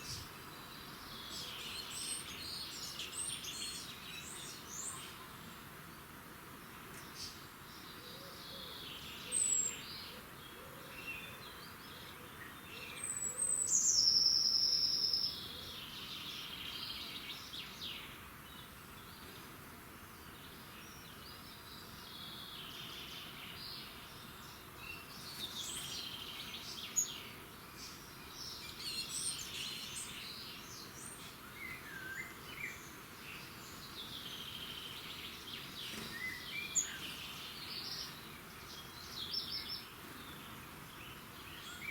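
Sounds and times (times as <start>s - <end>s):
songbirds chirping and singing: 0.0s - 5.9s, 6.6s - 19.4s, 20.2s - 41.9s
steady background hiss: 0.0s - 41.9s.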